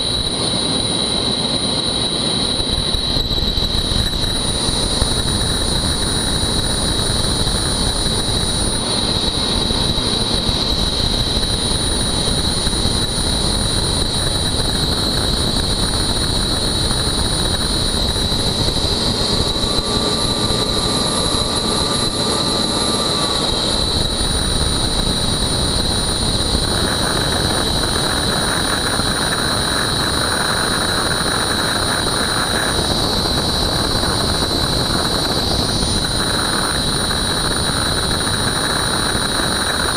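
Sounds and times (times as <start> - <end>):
constant high whine: 0.0 - 39.9
helicopter engine and rotor: 0.0 - 39.9.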